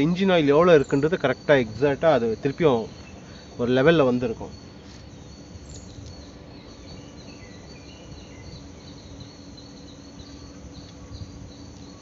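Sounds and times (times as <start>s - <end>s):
insects chirring: 0.0s - 12.0s
low steady hum: 0.0s - 12.0s.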